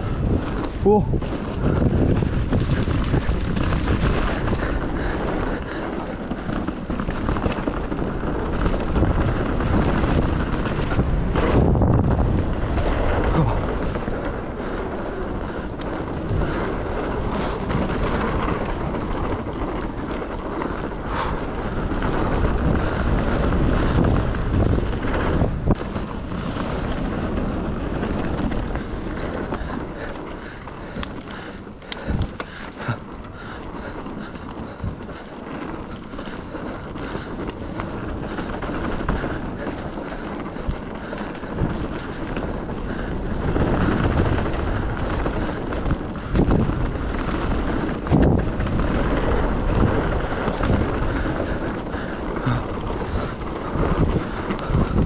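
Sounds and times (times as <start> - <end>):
bike knocks and rattles: 0.0 - 55.0
tyres rolling on dirt: 0.0 - 55.0
wind rushing over microphone: 0.0 - 55.0.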